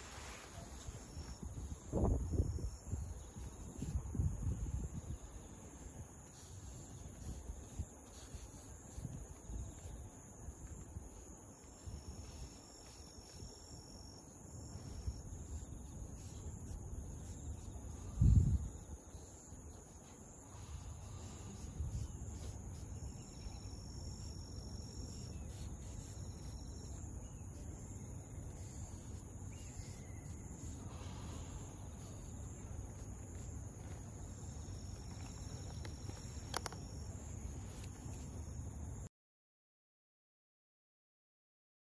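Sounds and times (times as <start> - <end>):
insects trilling: 0.0 - 39.1.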